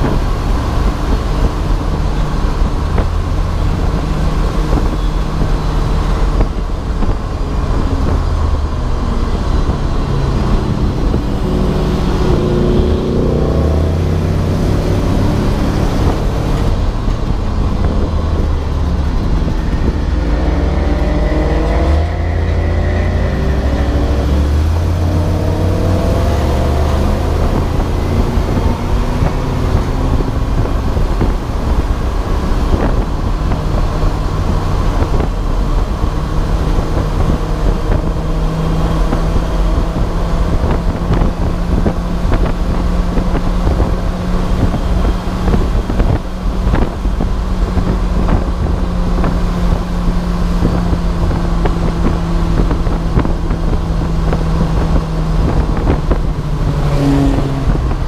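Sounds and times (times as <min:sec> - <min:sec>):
race car engine running hard: 0:00.0 - 0:58.0
road and wind noise: 0:00.0 - 0:58.0.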